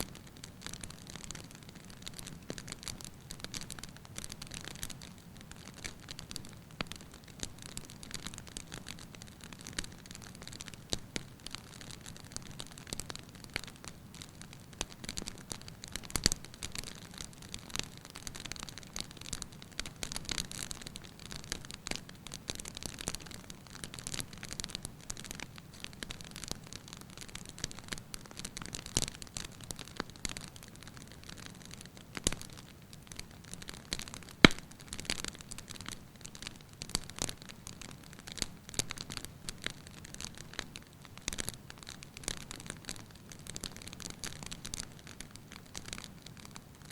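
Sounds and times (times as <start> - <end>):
firewood crackling and popping: 0.0 - 46.9
soft steady fire hiss: 0.0 - 46.9.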